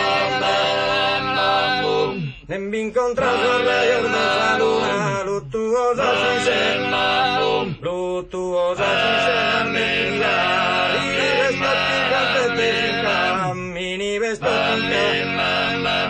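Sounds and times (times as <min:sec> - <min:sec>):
man singing chant-like notes: 0:00.0 - 0:16.0.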